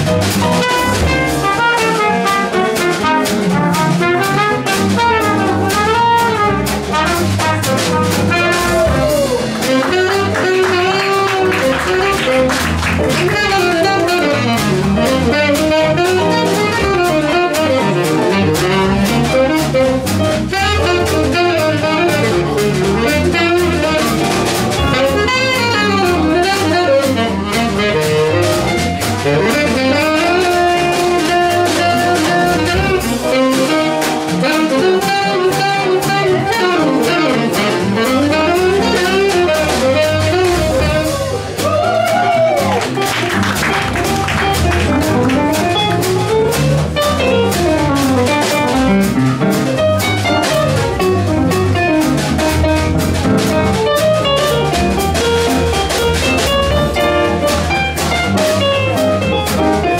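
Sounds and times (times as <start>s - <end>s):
swing jazz band playing: 0.0s - 59.9s
saxophone solo: 0.4s - 59.9s.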